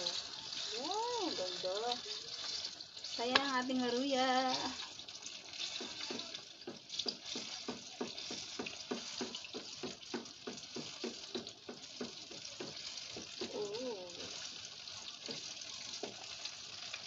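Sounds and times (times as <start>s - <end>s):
batter frying in hot oil: 0.0s - 17.0s
wooden spatula in pan: 0.0s - 17.0s.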